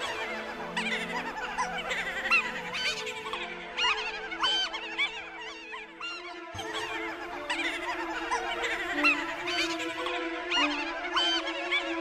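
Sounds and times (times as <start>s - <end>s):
eerie music with low drone: 0.0s - 12.0s.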